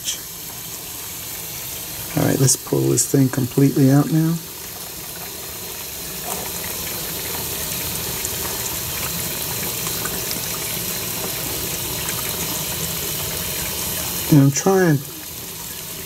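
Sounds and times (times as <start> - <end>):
water running out of a drain: 0.0 - 16.0.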